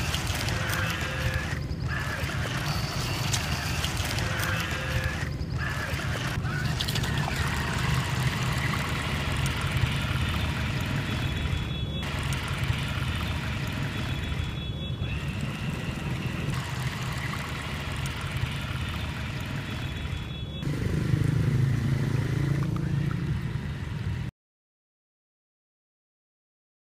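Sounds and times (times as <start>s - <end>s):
electric boat motor and propeller: 0.0s - 24.3s.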